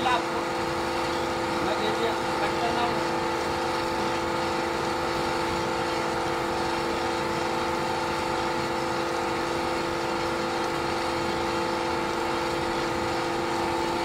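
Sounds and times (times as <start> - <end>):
plastic extruder machine hum: 0.0 - 14.0.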